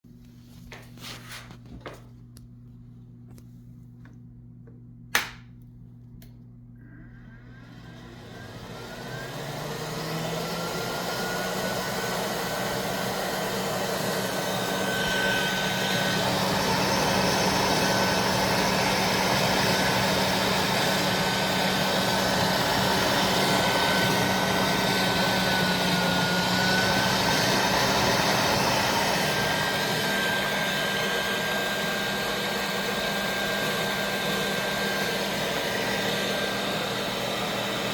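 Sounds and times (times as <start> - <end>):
blower fan whirring: 0.1 - 37.9.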